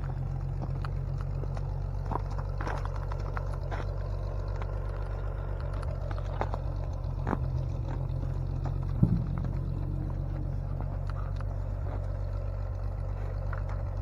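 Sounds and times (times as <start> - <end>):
clanks and rattles: 0.0 - 14.0
tractor engine running: 0.0 - 14.0.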